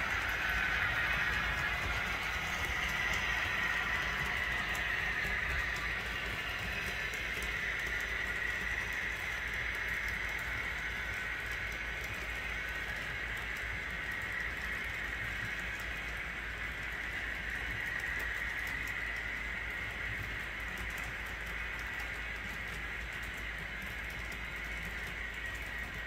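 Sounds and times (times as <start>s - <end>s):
model train wheels whirring: 0.0s - 26.0s
wheels clicking over rail joints: 0.0s - 26.0s.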